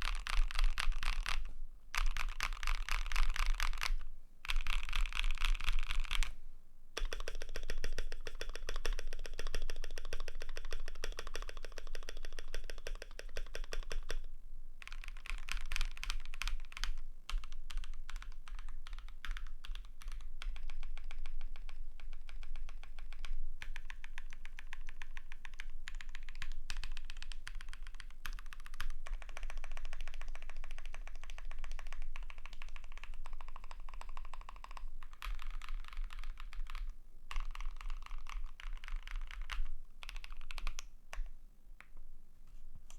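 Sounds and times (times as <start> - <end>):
fast mechanical keyboard typing: 0.0 - 6.3, 7.0 - 14.2, 14.8 - 41.3.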